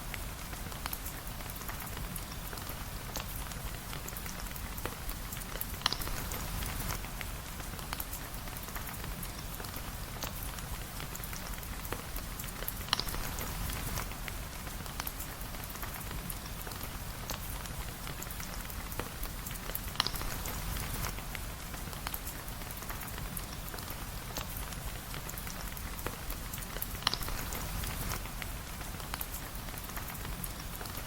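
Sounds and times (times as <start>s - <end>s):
raindrops clicking and ticking: 0.0s - 31.0s
steady rain hiss: 0.0s - 31.0s.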